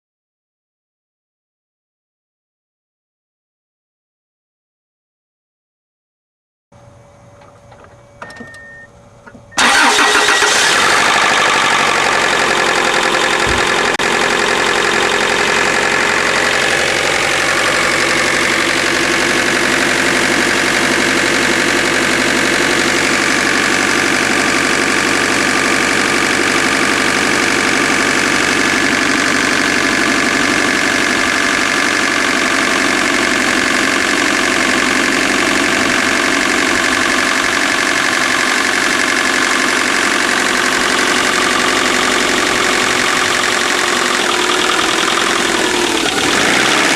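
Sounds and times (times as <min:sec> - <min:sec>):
car engine idling with knock: 0:07.3 - 0:08.6, 0:09.2 - 0:09.6, 0:10.5 - 0:46.9.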